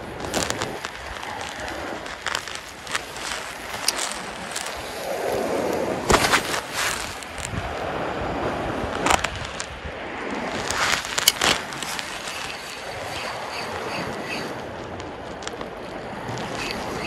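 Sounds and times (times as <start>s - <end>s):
sea water lapping: 0.0s - 17.0s
wind buffeting microphone: 0.0s - 17.0s.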